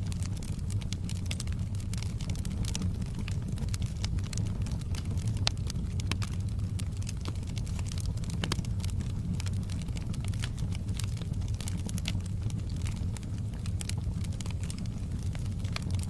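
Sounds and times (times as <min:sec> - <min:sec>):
fire rumbling in a fireplace: 0:00.0 - 0:16.0
logs crackling and popping: 0:00.0 - 0:16.0.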